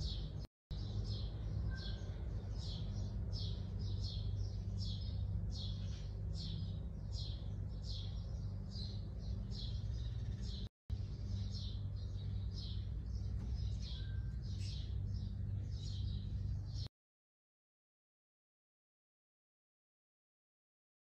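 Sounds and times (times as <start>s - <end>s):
small bird chirping: 0.0s - 16.9s
steady low hum: 0.0s - 16.9s.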